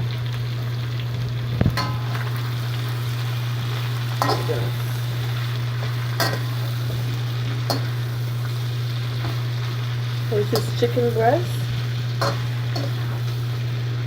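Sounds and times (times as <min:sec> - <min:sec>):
food sizzling in a frying pan: 0:00.0 - 0:14.0
steady low hum: 0:00.0 - 0:14.0.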